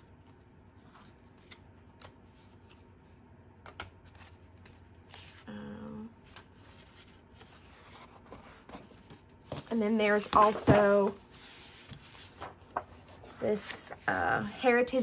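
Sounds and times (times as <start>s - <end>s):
paper pages rustling: 0.2s - 5.5s, 6.2s - 14.3s.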